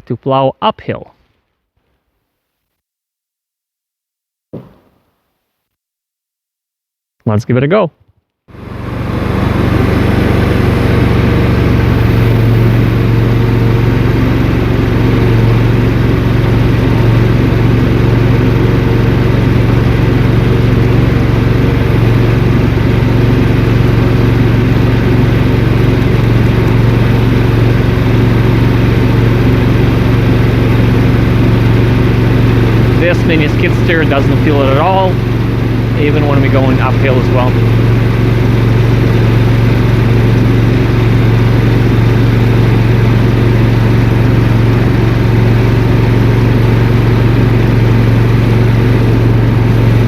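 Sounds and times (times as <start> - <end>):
gasoline engine running steadily: 8.5 - 50.0.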